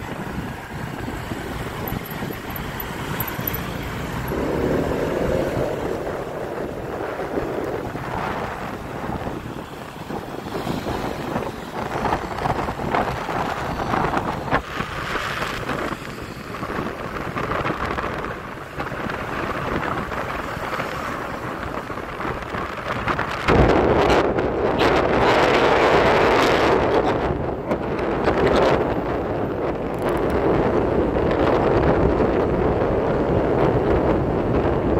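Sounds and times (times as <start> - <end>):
city road traffic: 0.0 - 34.9
wind buffeting microphone: 0.0 - 34.9.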